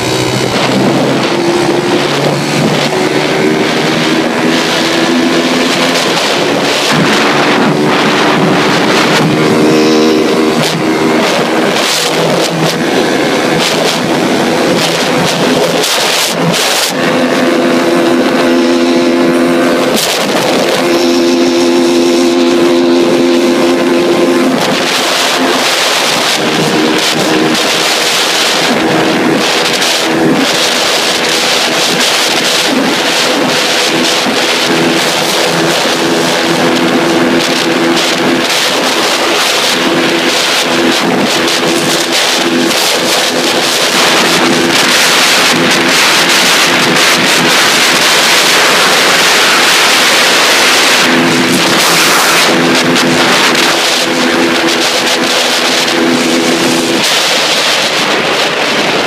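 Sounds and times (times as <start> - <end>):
motorcycle engine at high revs: 0.0 - 59.0
wind rushing over microphone: 0.0 - 59.0.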